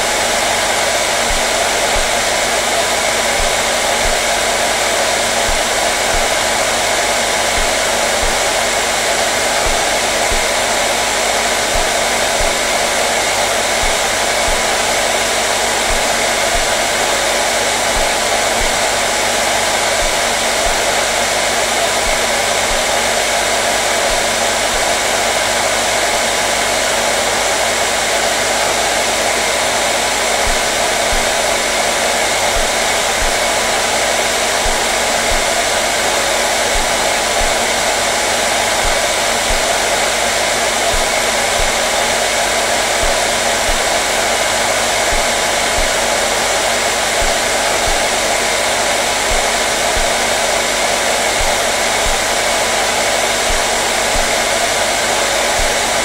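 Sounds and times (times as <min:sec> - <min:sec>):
faint motor hum: 0:00.0 - 0:25.3, 0:29.8 - 0:56.0
hair dryer blowing: 0:00.0 - 0:56.0.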